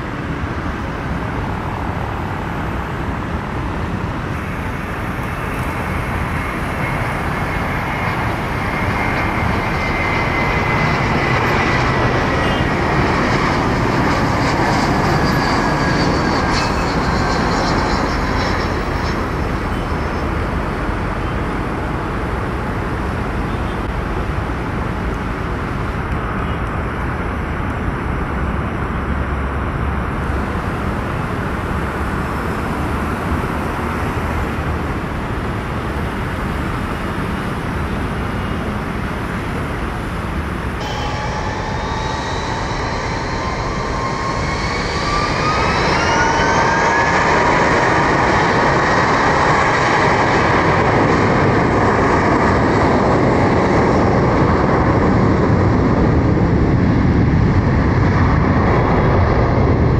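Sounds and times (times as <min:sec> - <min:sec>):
turbofans spooling up whine: 0:00.0 - 0:27.0, 0:27.7 - 0:59.9
jet engines rushing: 0:00.0 - 0:59.9.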